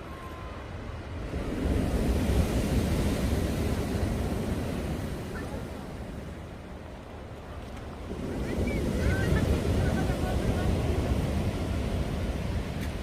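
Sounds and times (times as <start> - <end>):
sea surf: 0.0 - 13.0
wind buffeting microphone: 0.0 - 13.0.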